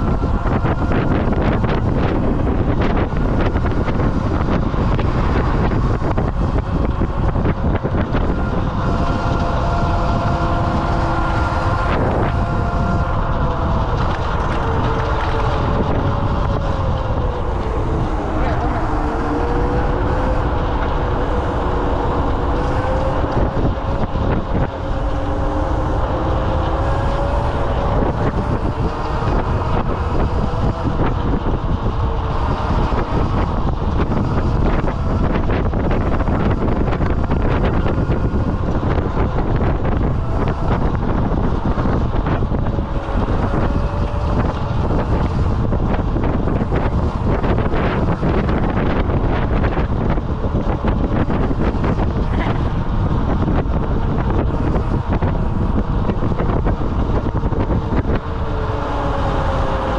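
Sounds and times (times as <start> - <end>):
faint motor whine: 0.0 - 59.9
scooter tyre rumble: 0.0 - 59.9
wind buffeting microphone: 0.0 - 59.9.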